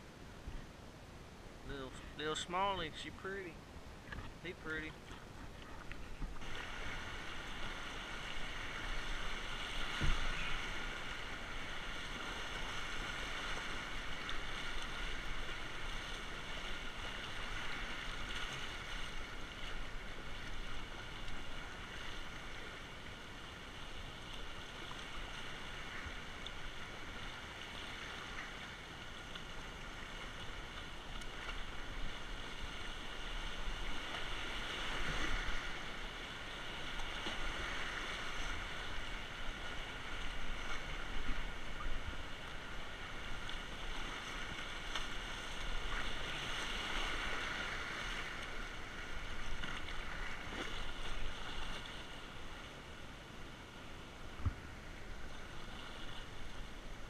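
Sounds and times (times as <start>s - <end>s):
rushing river rapids: 0.0s - 57.0s.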